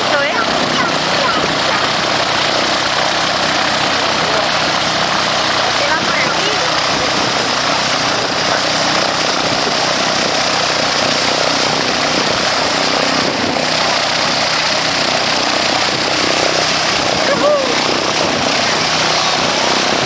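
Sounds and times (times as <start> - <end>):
constant rushing noise: 0.0 - 20.0
light aircraft engine drone: 0.0 - 20.0.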